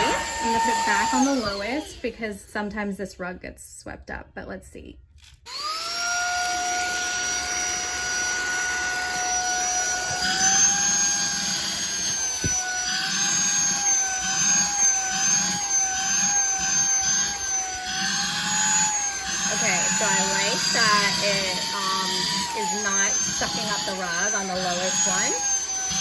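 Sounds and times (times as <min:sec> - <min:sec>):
handheld vacuum whining: 0:00.0 - 0:03.0, 0:05.5 - 0:26.0
vacuum nozzle rumbling on rug: 0:00.0 - 0:03.0, 0:05.5 - 0:26.0.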